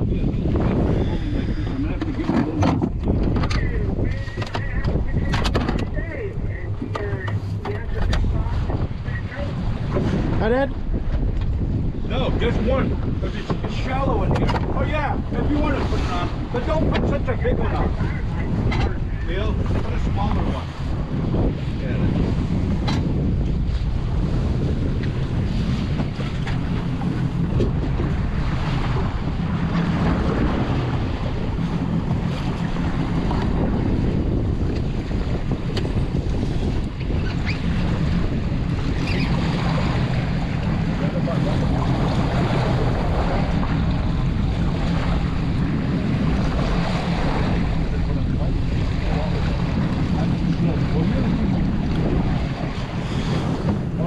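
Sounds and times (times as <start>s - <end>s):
boat engine running: 0.0s - 54.0s
water washing against hull: 0.0s - 54.0s
wind buffeting microphone: 0.0s - 54.0s.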